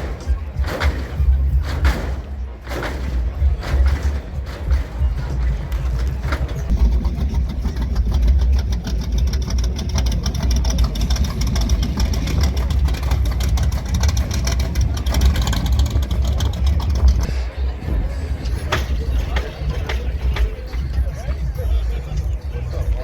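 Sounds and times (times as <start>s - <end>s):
faint voices: 0.0s - 23.0s
loud car engine running: 0.0s - 23.0s.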